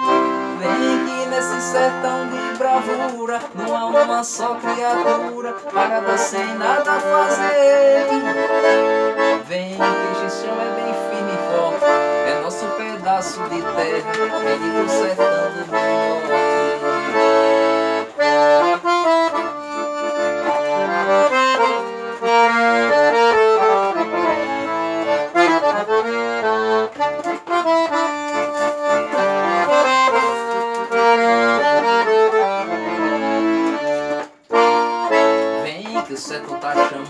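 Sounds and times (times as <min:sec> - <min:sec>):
accordion playing: 0:00.0 - 0:37.0.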